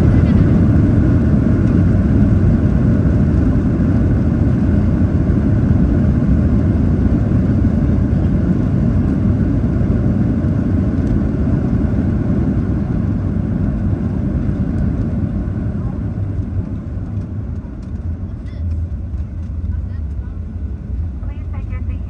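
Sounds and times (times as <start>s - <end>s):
airliner cabin rumble on runway: 0.0s - 22.0s.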